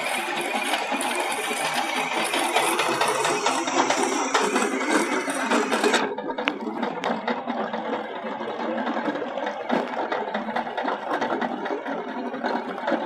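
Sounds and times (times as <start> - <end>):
tractor engine: 0.0 - 13.0.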